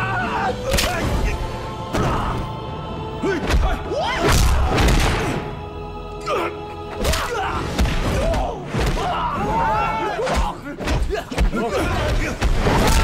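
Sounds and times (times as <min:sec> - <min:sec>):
shouts and grunts: 0:00.0 - 0:02.5, 0:03.2 - 0:04.9, 0:06.2 - 0:13.0
film soundtrack music: 0:00.0 - 0:13.0.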